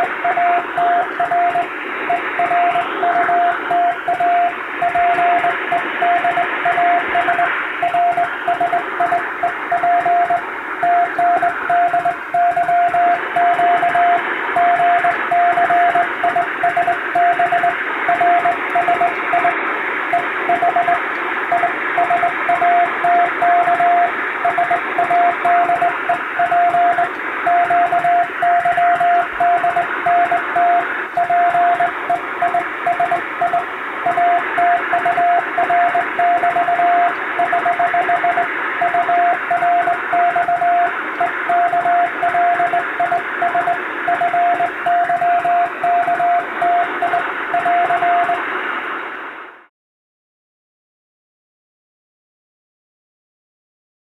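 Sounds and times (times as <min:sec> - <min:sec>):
morse code beeps: 0:00.0 - 0:48.4
radio hiss: 0:00.0 - 0:49.7.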